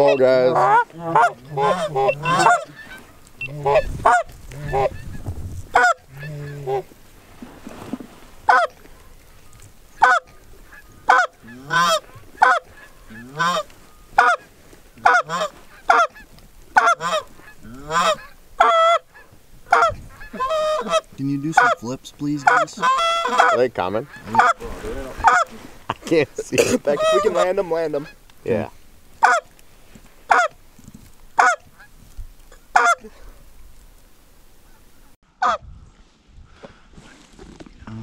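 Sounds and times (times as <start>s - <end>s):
geese honking: 0.0s - 30.6s, 31.3s - 31.9s, 32.5s - 33.3s, 34.6s - 35.6s.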